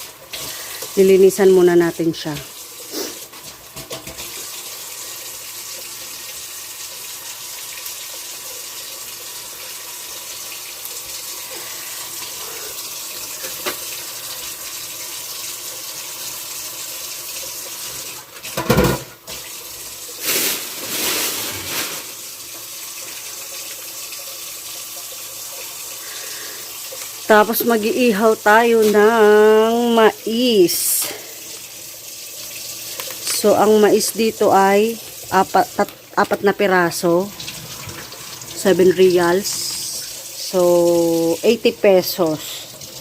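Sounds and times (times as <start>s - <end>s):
tap water running into sink: 0.0s - 1.2s, 2.2s - 43.0s.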